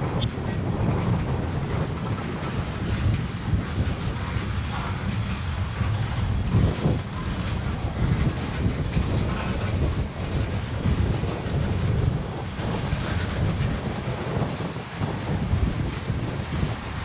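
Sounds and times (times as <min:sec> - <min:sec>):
train wheels rumbling on rails: 0:00.0 - 0:17.0
wheels clickety-clack: 0:00.0 - 0:17.0.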